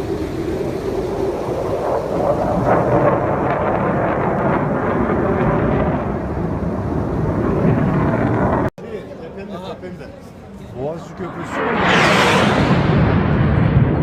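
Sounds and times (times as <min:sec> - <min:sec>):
jet flying low: 0:00.0 - 0:09.3, 0:10.2 - 0:14.0.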